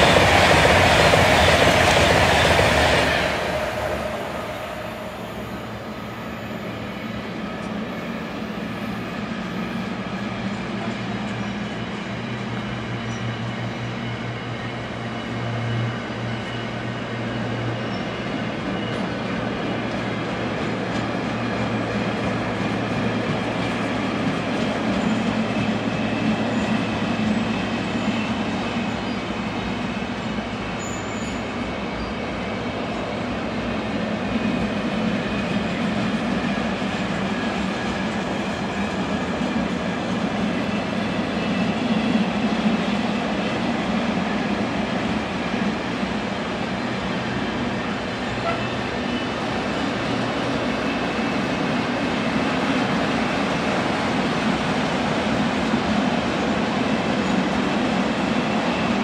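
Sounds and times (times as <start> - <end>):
train running on tracks: 0.0 - 59.0.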